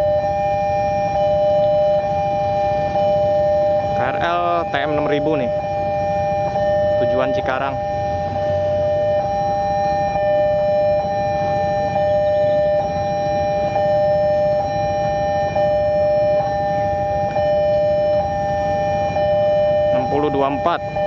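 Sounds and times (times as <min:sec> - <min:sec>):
level crossing warning alarm: 0:00.0 - 0:21.0.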